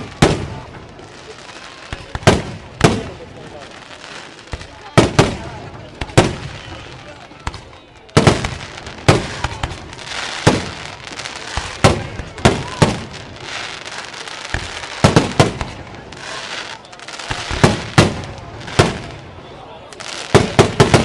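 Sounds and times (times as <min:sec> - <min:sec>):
fireworks crackle: 0:00.0 - 0:21.0.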